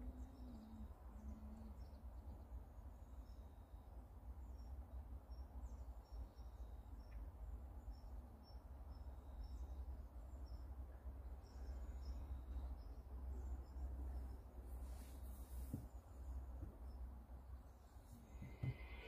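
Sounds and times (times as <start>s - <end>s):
faint high-pitched chirps: 0.0s - 19.0s.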